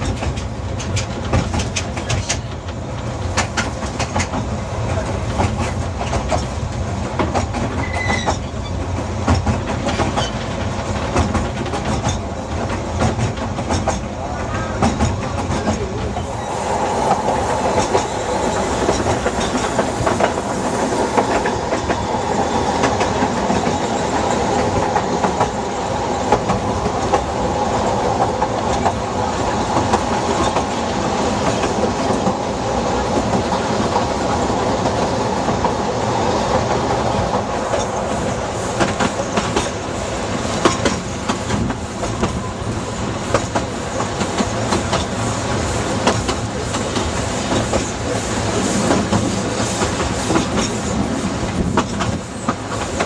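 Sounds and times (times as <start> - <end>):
clickety-clack over rail joints: 0.0 - 16.3, 16.9 - 53.0
train wheels rumbling on track: 0.0 - 53.0.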